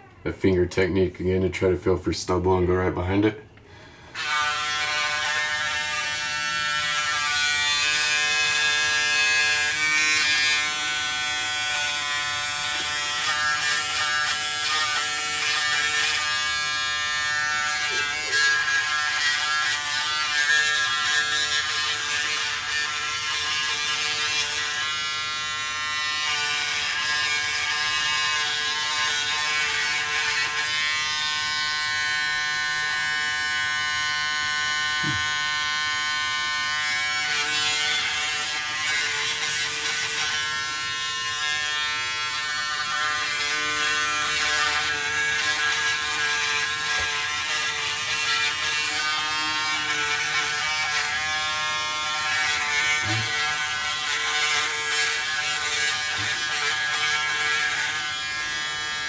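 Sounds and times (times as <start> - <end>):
electric shaver buzzing: 3.8 - 59.0.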